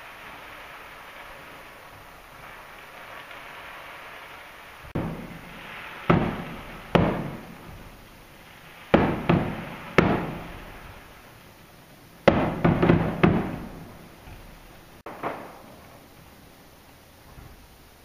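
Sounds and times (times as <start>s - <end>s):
firework bangs with rolling echo: 0.0s - 18.0s.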